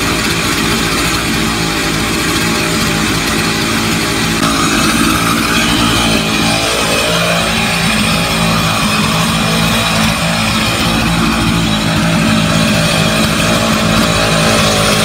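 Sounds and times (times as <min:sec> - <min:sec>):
chainsaw ripping through log: 0:00.0 - 0:15.0.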